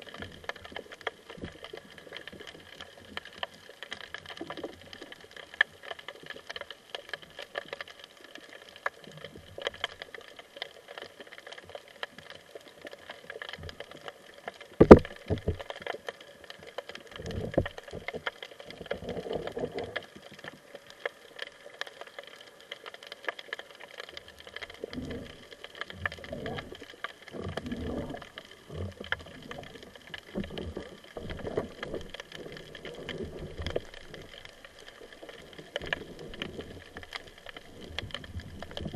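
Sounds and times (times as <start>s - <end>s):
underwater knocks and rustles: 0.0s - 38.9s.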